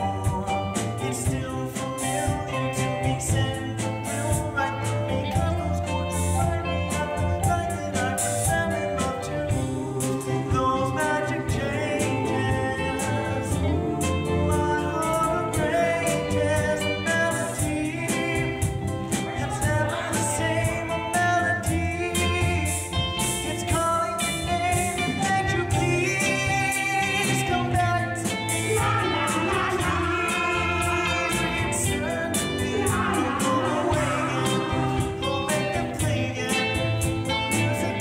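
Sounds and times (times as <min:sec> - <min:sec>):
group singing doo-wop song: 0:00.0 - 0:38.0
instrumental accompaniment with beat: 0:00.0 - 0:38.0.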